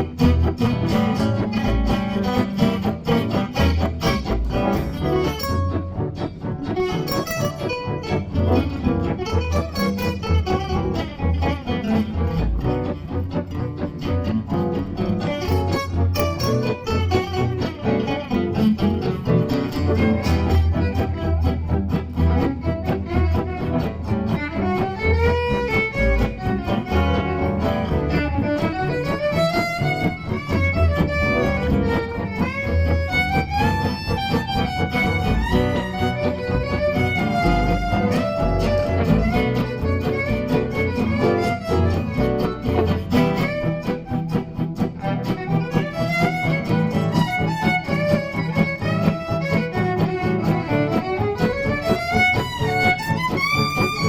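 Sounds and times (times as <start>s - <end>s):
low bass notes: 0.0s - 54.0s.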